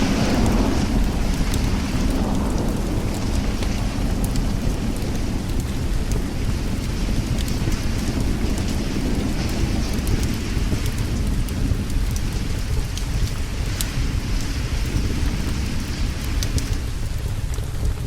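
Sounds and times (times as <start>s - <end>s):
low thunder rumble: 0.0s - 18.0s
steady rain: 0.0s - 18.0s
wood fire crackling: 0.0s - 18.0s.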